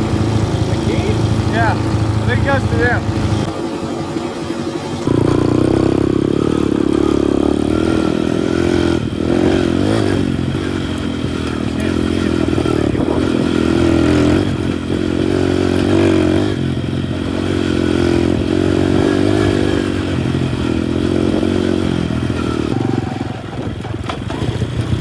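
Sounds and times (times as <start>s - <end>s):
minibike engine running: 0.0s - 25.0s.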